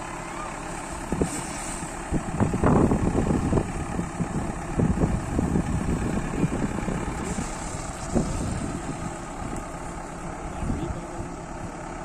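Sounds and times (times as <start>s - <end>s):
earth-moving machine engine idling: 0.0s - 12.0s.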